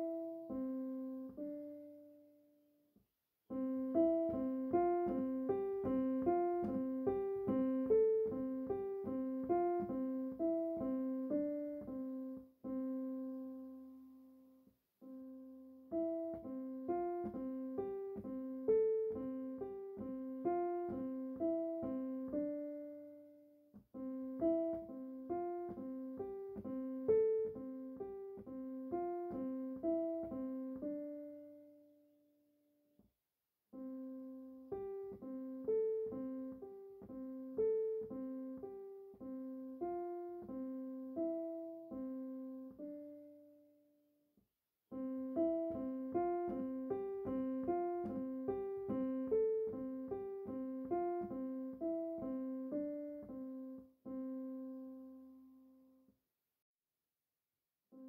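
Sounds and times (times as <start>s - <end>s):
solo piano music: 0.0s - 32.8s, 33.7s - 44.2s, 44.9s - 56.2s.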